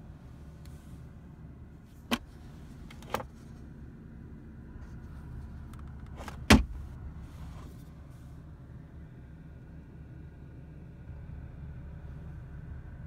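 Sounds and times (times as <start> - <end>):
low cabin hum: 0.0 - 13.0.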